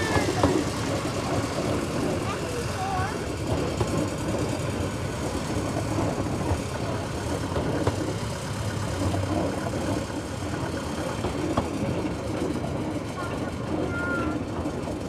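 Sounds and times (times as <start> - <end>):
diesel locomotive running: 0.0 - 15.0
wagons rattling on track: 0.0 - 15.0.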